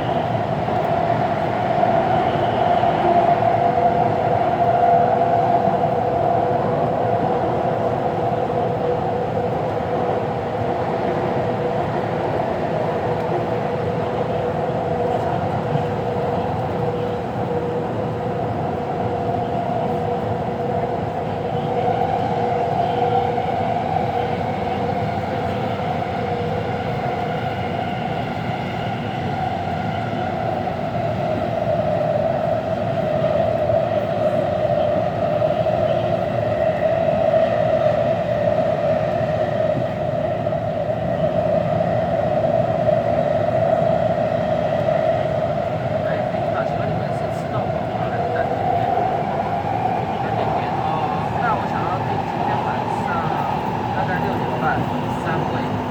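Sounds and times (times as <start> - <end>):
faint train whine: 0.0 - 55.9
train rumbling in motion: 0.0 - 55.9.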